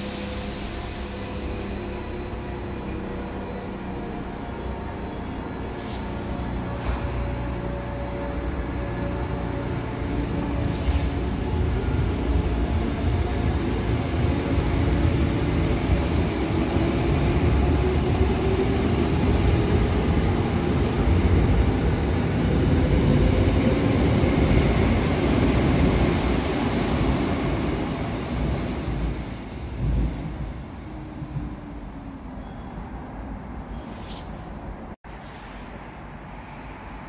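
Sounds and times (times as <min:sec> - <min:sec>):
wheels rumbling on rail: 0:00.0 - 0:37.0.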